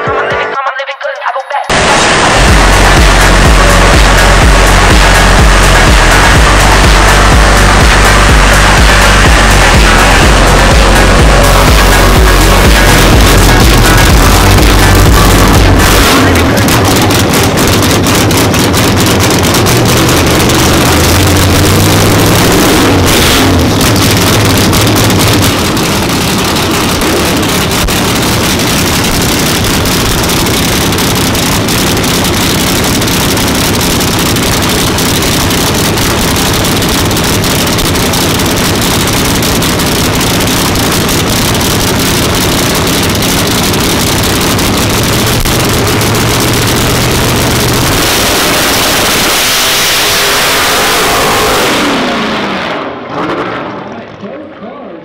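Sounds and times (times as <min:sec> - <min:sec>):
race car engine idling loudly: 0:01.7 - 0:55.0.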